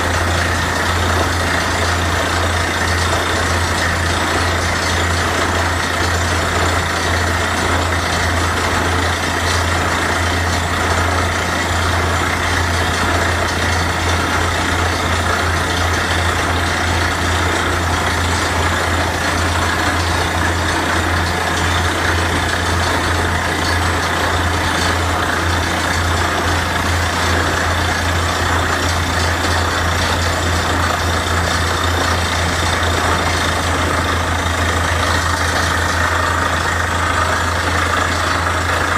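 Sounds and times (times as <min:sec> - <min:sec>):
diesel engine drone: 0:00.0 - 0:38.9.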